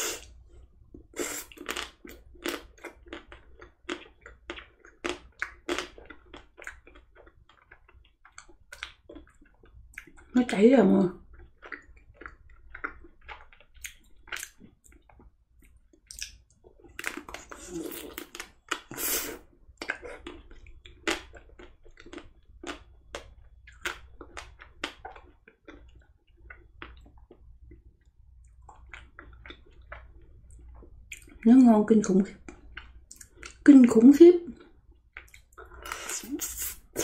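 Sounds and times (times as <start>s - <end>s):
wet chewing and smacking: 0.2s - 10.3s, 11.2s - 31.4s, 32.4s - 33.7s, 34.5s - 37.0s.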